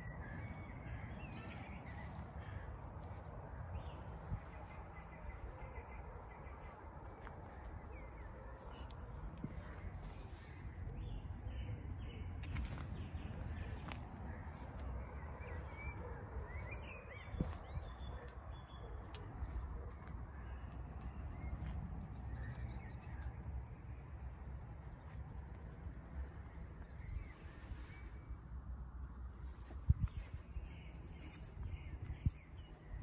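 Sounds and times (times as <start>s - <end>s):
birds calling: 0.0s - 33.0s
steady low rumble: 0.0s - 33.0s.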